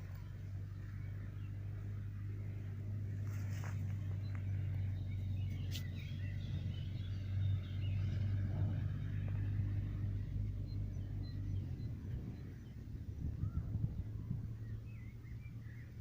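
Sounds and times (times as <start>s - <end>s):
birds chirping: 0.0s - 16.0s
low rumble: 0.0s - 16.0s.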